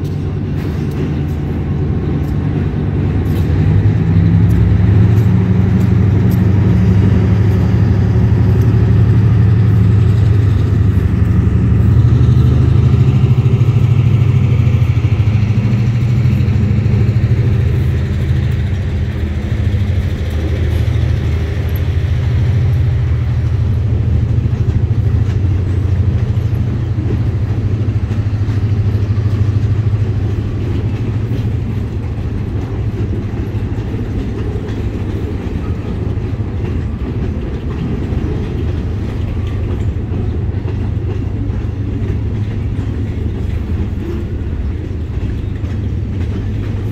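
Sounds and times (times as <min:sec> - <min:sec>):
diesel locomotive engine droning: 0:00.0 - 0:46.9.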